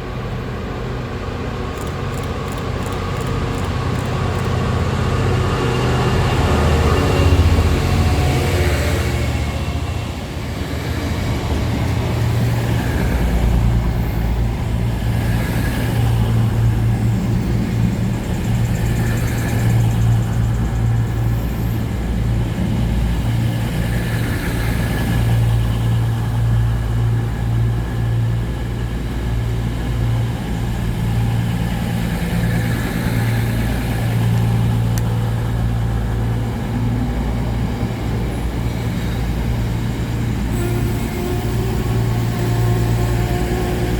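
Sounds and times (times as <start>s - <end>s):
train running low drone: 0.0s - 43.9s.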